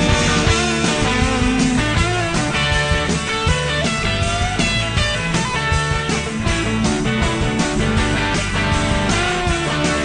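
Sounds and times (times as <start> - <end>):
rock song with guitar: 0.0 - 10.0.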